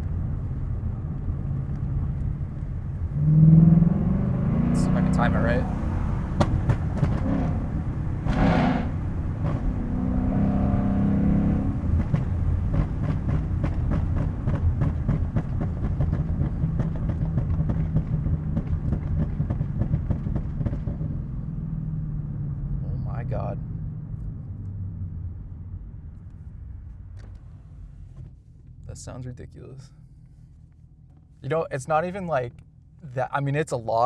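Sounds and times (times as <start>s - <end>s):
exhaust crackles and pops: 0.0s - 3.2s, 6.3s - 10.0s, 11.4s - 33.6s
car engine droning: 0.0s - 34.0s.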